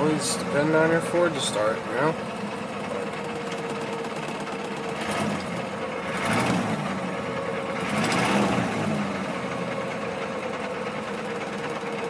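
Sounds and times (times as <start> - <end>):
truck engine fast idle: 0.0 - 12.0.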